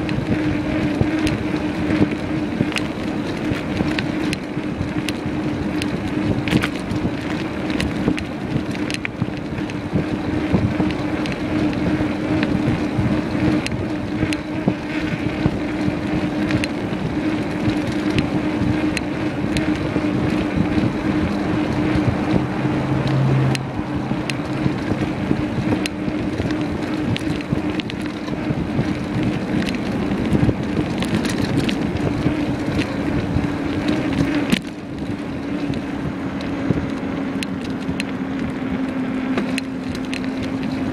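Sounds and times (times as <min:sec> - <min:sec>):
bicycle clicks and rattles: 0:00.0 - 0:40.9
road noise: 0:00.0 - 0:40.9
wind rushing over microphone: 0:00.0 - 0:40.9.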